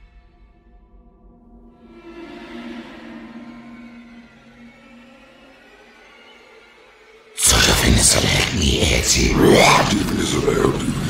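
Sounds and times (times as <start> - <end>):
tense film score music: 0.0 - 11.0.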